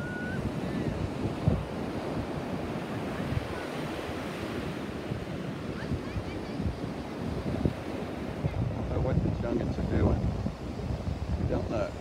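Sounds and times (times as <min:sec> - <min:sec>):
ocean surf on sandy beach: 0:00.0 - 0:12.0
wind buffeting microphone: 0:00.0 - 0:12.0.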